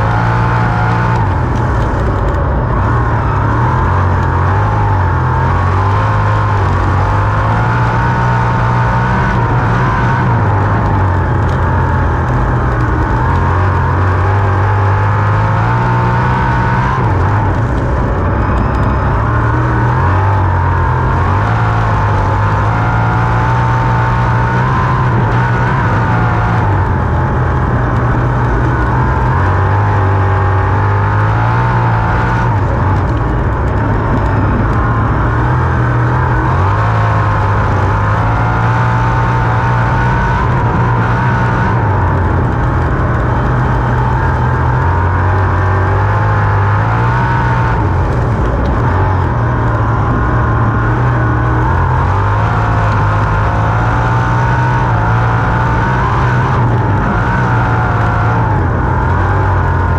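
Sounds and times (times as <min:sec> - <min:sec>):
racing car engine at speed: 0:00.0 - 0:59.9.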